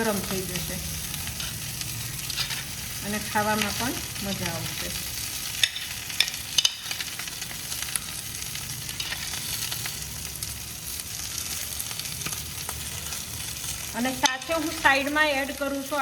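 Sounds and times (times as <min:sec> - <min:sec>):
food sizzling on hot plate: 0:00.0 - 0:16.0.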